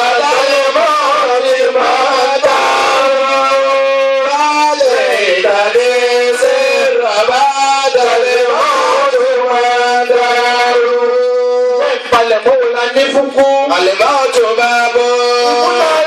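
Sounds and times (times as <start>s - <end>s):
man chanting devotional melody: 0.0s - 16.0s.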